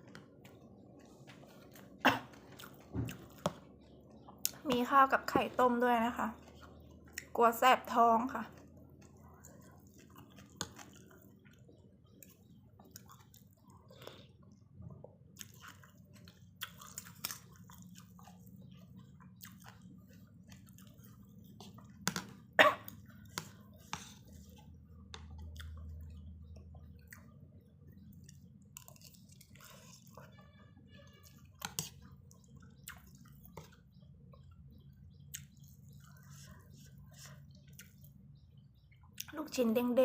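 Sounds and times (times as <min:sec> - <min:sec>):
person chewing noodle soup: 0:00.0 - 0:04.9, 0:06.3 - 0:07.4, 0:08.4 - 0:39.3.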